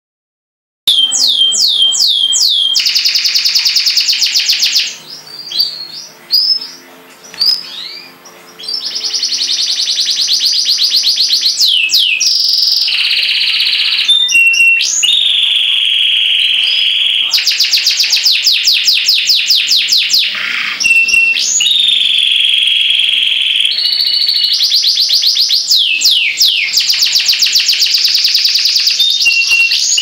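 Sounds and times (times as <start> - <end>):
canary singing: 0.9 - 30.0.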